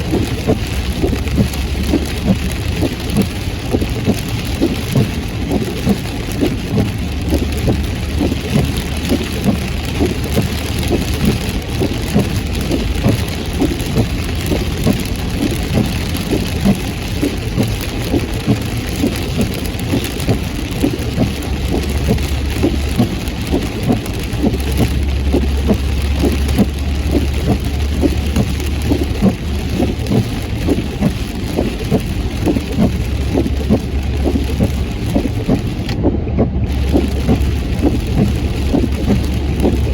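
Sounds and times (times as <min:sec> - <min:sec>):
engine and tyre rumble: 0:00.0 - 0:39.9
heavy rain pattering on car: 0:00.0 - 0:39.9.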